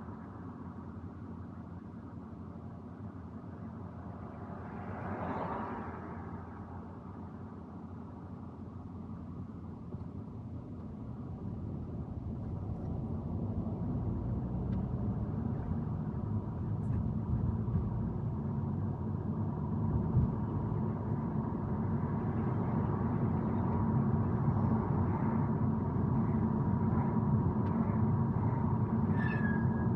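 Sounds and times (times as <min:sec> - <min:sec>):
car engine and tyre rumble: 0:00.0 - 0:29.9.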